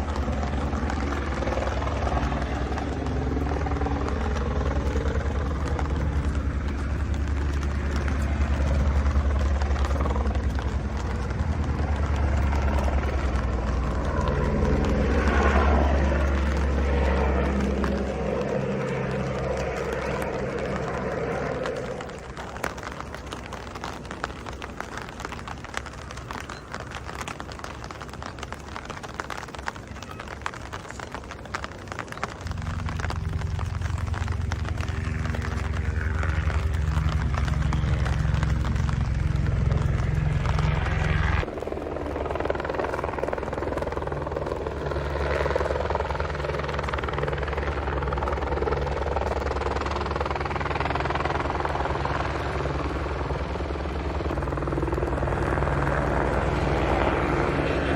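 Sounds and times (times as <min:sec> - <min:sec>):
low steady rumble: 0:00.0 - 0:57.9
pulsing mechanical drone: 0:00.0 - 0:57.9
raindrops ticking on surfaces: 0:00.0 - 0:57.9.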